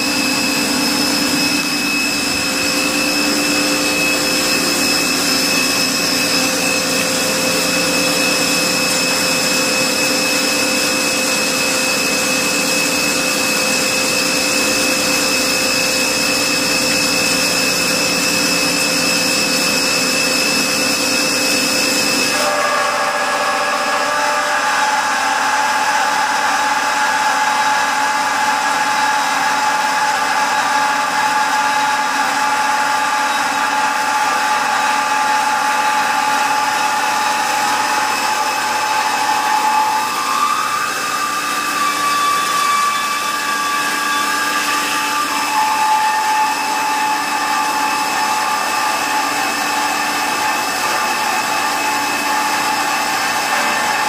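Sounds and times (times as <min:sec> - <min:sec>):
bandsaw cutting steel: 0:00.0 - 0:54.0.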